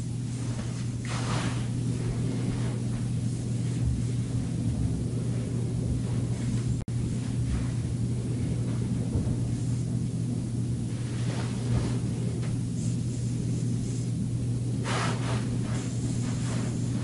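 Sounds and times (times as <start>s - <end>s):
bedding rustling: 0.0s - 17.0s
room noise hum: 0.0s - 17.0s.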